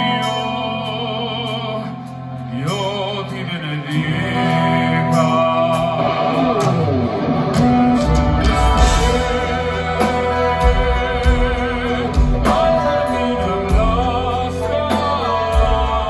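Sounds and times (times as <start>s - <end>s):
keyboard and guitar chords: 0.0s - 16.0s
man singing operatically: 0.0s - 16.0s
rock band with bass and drums: 0.0s - 16.0s.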